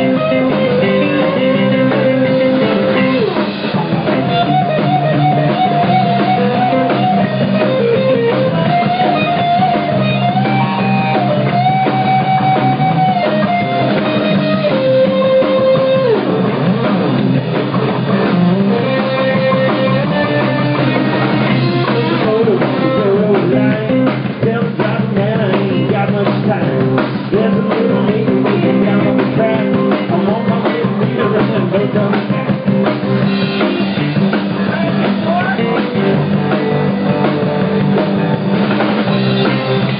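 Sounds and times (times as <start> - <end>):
bending guitar melody notes: 0.0 - 39.9
live rock band playing: 0.0 - 39.9
steady drumming: 0.0 - 39.9.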